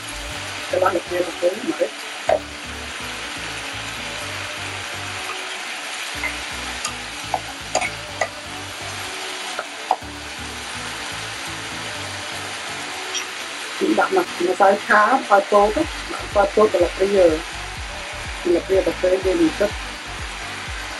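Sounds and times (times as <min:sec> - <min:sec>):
beef sizzling in oil: 0:00.0 - 0:16.3, 0:17.0 - 0:18.5, 0:19.4 - 0:20.9.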